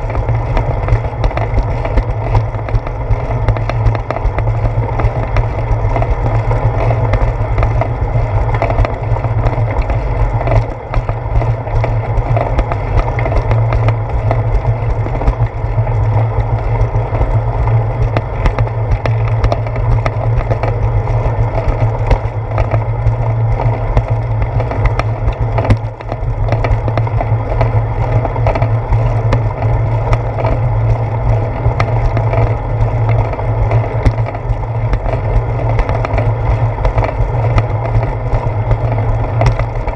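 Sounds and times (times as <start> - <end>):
bicycle tyre rumble on concrete: 0.0 - 39.9
small rattles and clicks: 0.0 - 39.9.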